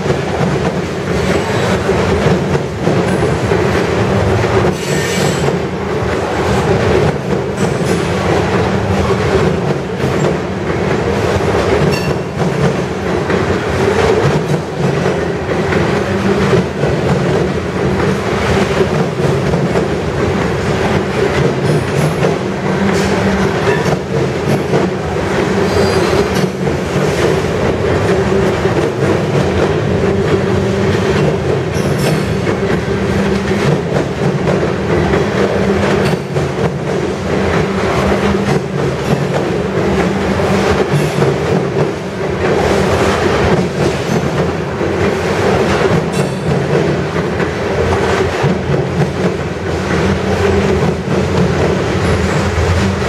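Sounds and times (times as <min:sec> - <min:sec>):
steel wheels rumbling on rail: 0:00.0 - 0:53.0.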